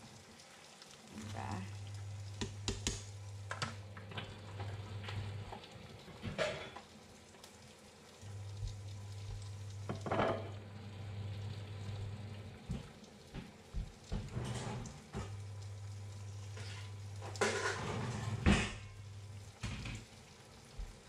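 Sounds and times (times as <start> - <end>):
eggs frying in a pan: 0.0 - 21.0
low cooktop hum: 0.0 - 21.0
water boiling in a pot: 0.0 - 21.0.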